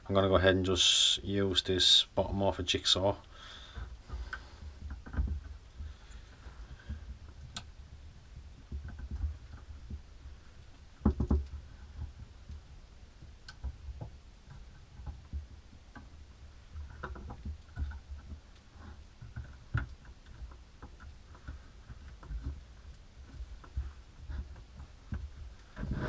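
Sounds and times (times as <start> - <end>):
small clicks and taps: 3.2 - 25.8.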